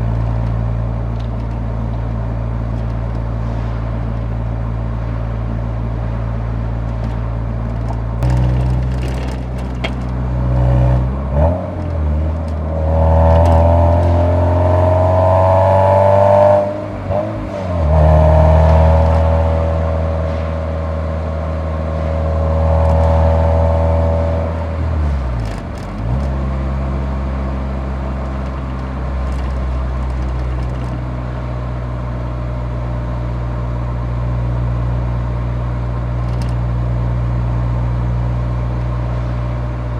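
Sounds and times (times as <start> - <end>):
car exhaust droning: 0.0 - 39.9.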